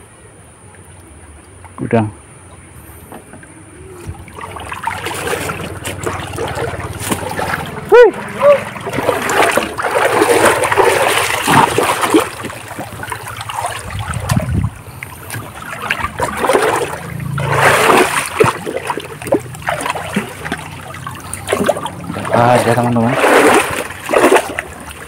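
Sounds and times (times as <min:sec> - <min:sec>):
river water splashing: 0:02.5 - 0:25.0.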